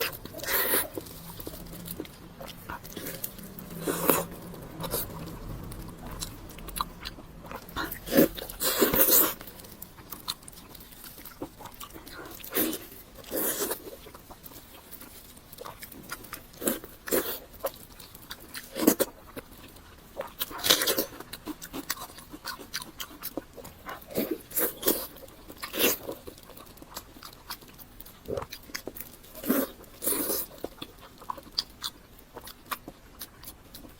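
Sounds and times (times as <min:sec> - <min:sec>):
crunchy bites and chewing: 0:00.0 - 0:33.9.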